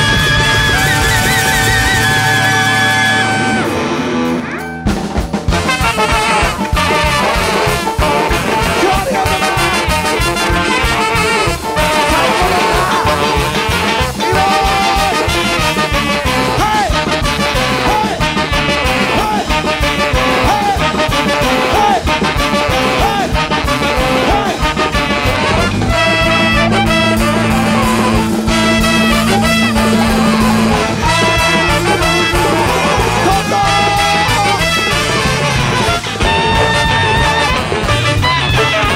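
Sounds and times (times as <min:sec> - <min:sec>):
free jazz big band playing: 0:00.0 - 0:38.9.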